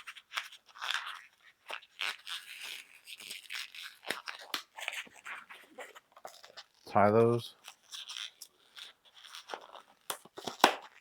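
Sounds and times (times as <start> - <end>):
balloon latex rubbing and creaking: 0.0 - 11.0.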